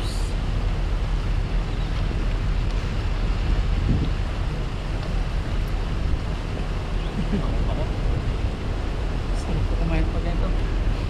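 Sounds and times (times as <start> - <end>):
river rushing and babbling: 0.0 - 11.0.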